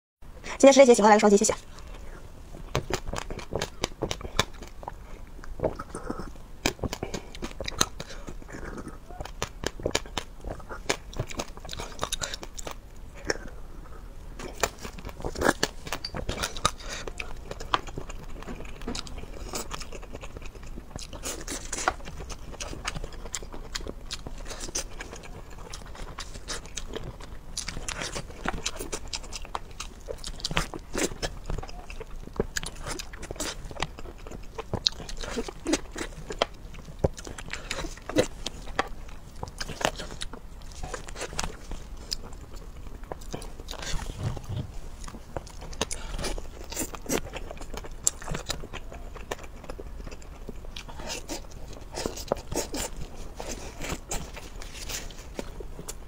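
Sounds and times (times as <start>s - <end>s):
person chewing food: 1.6s - 56.0s.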